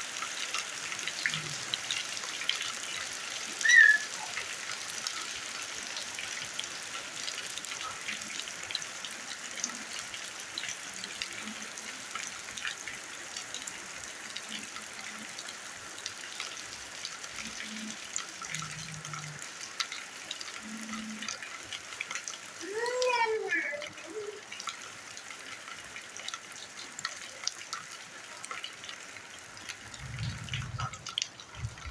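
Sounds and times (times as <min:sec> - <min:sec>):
rain falling on ground: 0:00.0 - 0:31.9.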